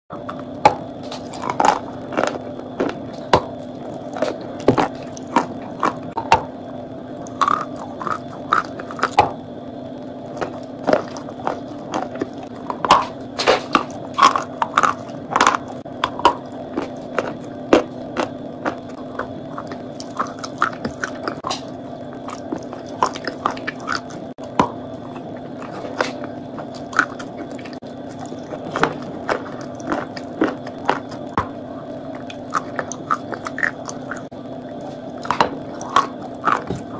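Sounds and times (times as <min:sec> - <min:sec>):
steady background hum: 0:00.1 - 0:36.9
chalk crunching and chewing: 0:00.3 - 0:06.4, 0:07.2 - 0:09.4, 0:10.3 - 0:24.4, 0:25.0 - 0:36.9.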